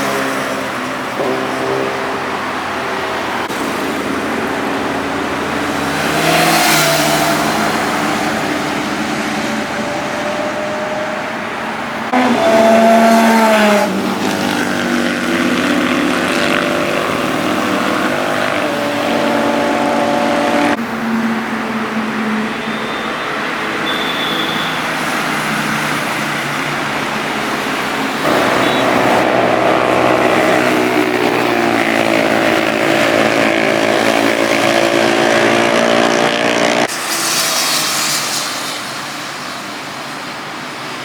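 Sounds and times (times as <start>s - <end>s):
superbike engines revving past: 0.0s - 10.8s, 12.1s - 20.8s, 25.0s - 39.0s.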